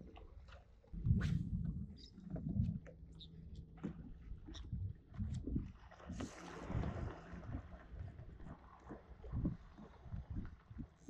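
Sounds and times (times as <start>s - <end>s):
wind rumbling on microphone: 0.8s - 11.0s.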